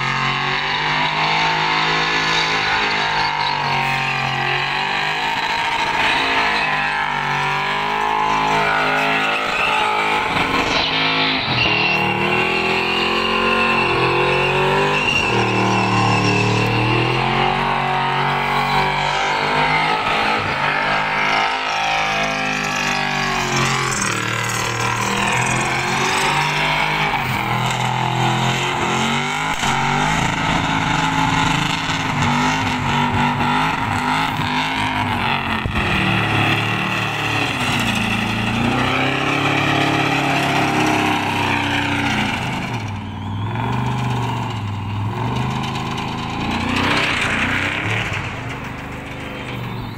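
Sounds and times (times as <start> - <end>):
car engine revving: 0.0 - 49.9
tyres screeching: 0.4 - 49.9.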